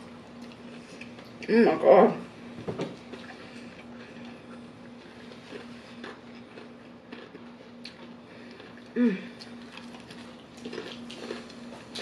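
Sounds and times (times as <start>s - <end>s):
faint low hum: 0.0s - 12.0s
person chewing: 0.3s - 1.5s, 3.0s - 12.0s.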